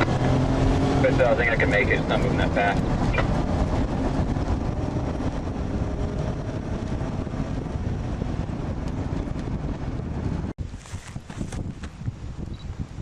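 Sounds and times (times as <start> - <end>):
car engine and road rumble: 0.0 - 13.0
wind noise: 0.0 - 13.0.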